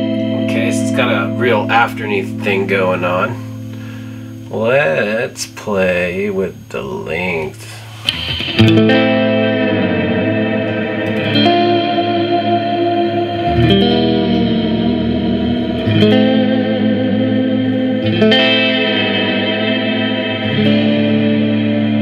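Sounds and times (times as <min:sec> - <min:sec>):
electric guitar chords with reverb: 0:00.0 - 0:22.0.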